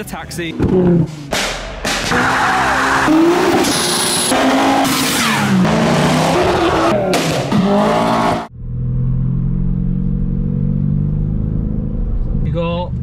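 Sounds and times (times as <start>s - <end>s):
car engine revving: 0.4s - 13.0s.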